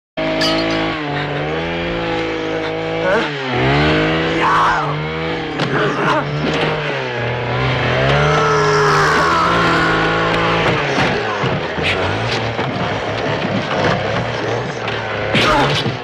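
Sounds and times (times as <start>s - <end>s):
chainsaw engine revving: 0.2s - 16.0s.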